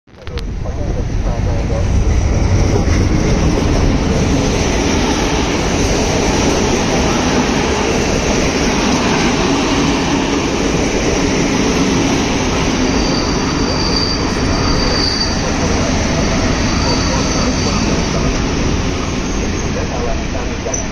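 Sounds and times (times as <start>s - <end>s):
train wheels rumbling on rail: 0.2s - 20.9s.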